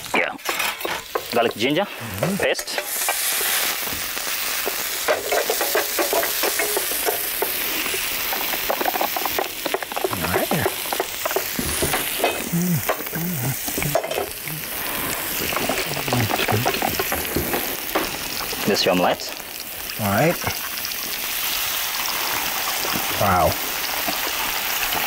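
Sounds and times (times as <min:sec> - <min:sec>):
onions sizzling in a frying pan: 0:00.0 - 0:25.0.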